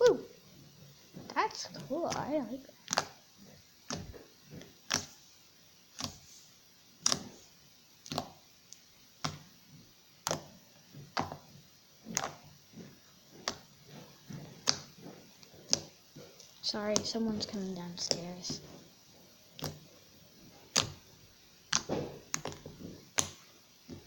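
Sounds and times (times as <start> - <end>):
slime popping by hand: 1.2 - 5.2, 5.8 - 6.3, 6.9 - 7.4, 8.0 - 18.8, 19.4 - 24.0.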